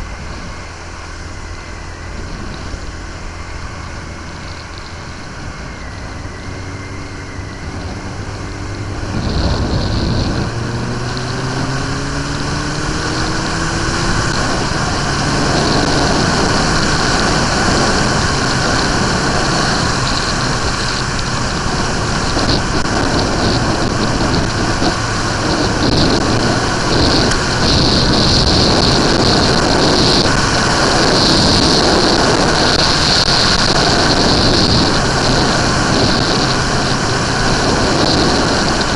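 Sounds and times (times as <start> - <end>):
motorcycle engine accelerating: 0.0 - 38.9
steady rushing noise: 0.0 - 38.9.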